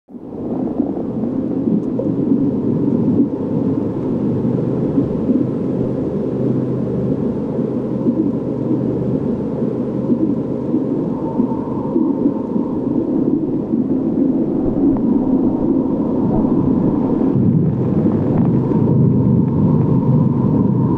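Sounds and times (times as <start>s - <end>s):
low rumbling drone: 0.1s - 20.9s.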